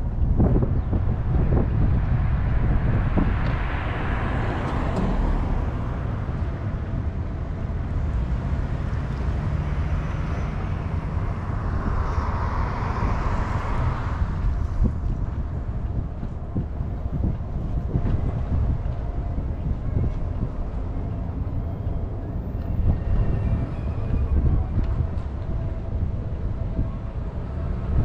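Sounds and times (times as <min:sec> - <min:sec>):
road traffic rumble: 0:00.0 - 0:28.0
wind on microphone: 0:00.0 - 0:28.0.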